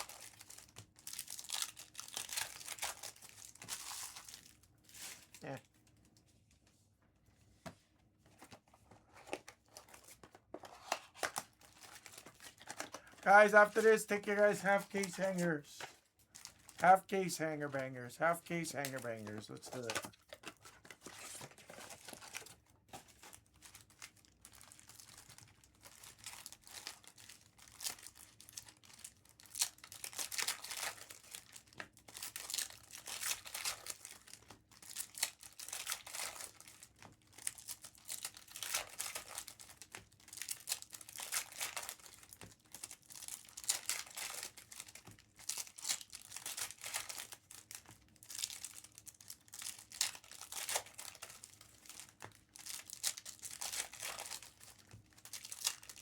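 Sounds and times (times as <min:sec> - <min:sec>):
card pack wrappers crinkling: 0:00.0 - 0:06.0, 0:08.3 - 0:56.0.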